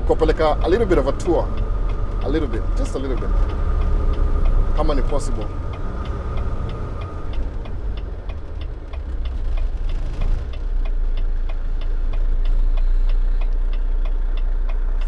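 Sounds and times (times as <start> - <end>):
car turn signal ticking: 0.0 - 15.0
engine and road noise: 0.0 - 15.0.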